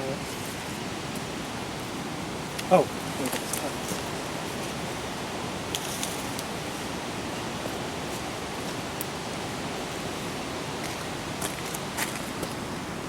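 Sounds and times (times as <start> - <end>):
leaves crackling: 0.0 - 13.0
outdoor background rush: 0.0 - 13.0.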